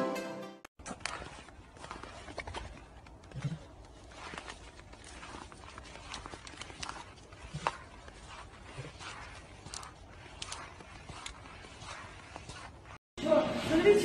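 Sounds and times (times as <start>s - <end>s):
footsteps crunching on snow: 0.8s - 14.0s.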